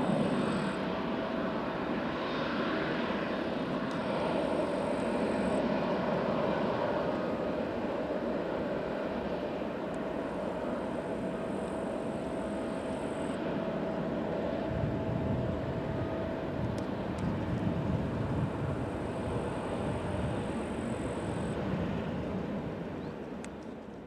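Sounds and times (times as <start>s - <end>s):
high-pitched engine whine: 0.0s - 23.2s
jet engine rumble: 0.0s - 24.0s.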